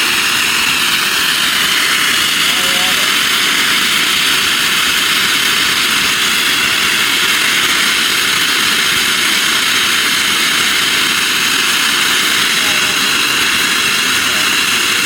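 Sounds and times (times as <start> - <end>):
high-pitched hiss of escaping steam: 0.0 - 15.0.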